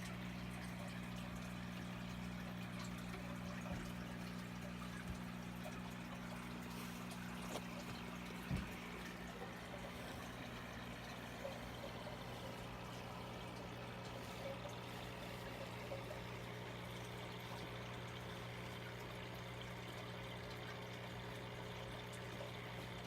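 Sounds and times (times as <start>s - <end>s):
aquarium water trickling: 0.0s - 23.0s.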